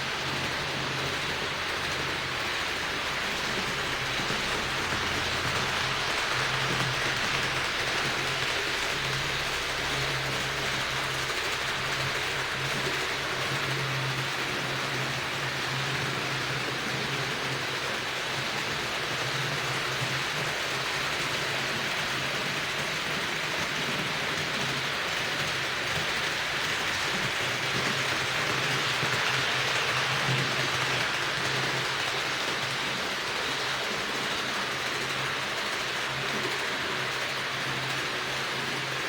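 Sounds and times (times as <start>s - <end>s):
model train wheels rattling on rails: 0.0s - 39.0s.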